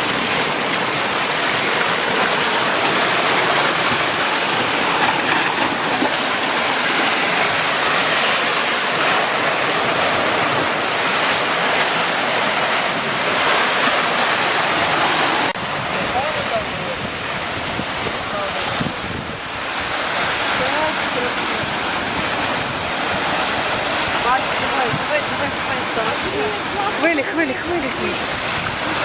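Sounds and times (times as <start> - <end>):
surf breaking on rocky shore: 0.0 - 29.0.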